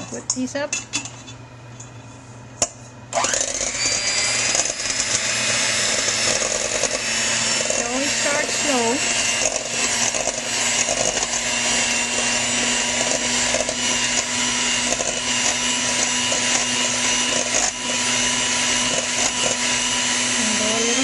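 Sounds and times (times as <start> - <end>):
electric hand mixer whipping: 3.1 - 21.0.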